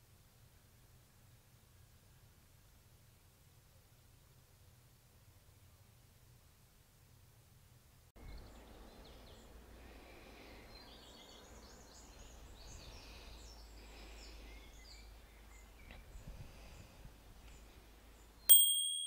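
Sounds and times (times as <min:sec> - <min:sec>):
faint hum: 0:00.0 - 0:18.6.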